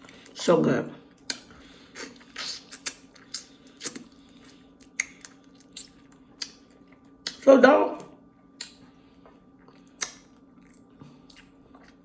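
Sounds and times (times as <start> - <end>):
wet chewing and lip smacks: 1.1 - 7.5, 8.5 - 12.0.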